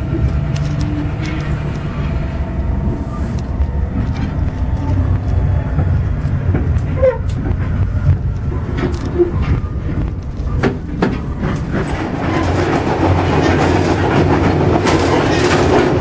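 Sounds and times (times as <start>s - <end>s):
train rumble inside car: 0.0s - 16.0s.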